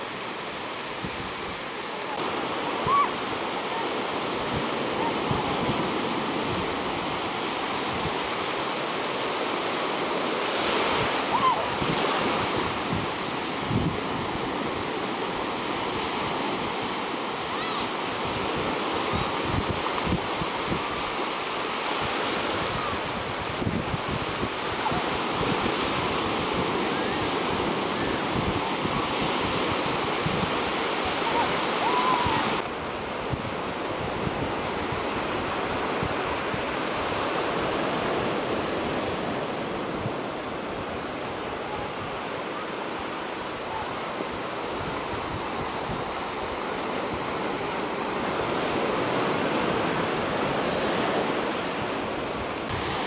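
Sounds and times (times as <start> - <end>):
waves breaking on sandy beach: 0.0 - 53.0
wind buffeting microphone: 4.0 - 8.6, 10.1 - 42.4, 43.2 - 53.0.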